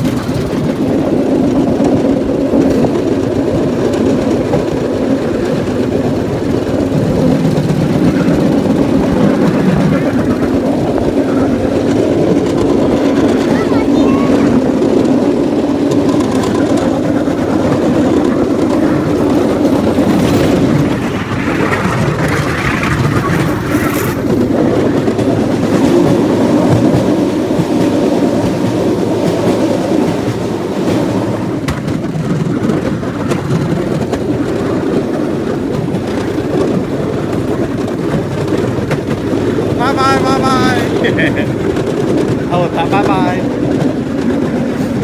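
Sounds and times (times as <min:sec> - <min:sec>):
small engine droning: 0:00.0 - 0:45.0
wheels clacking over rails: 0:00.0 - 0:45.0.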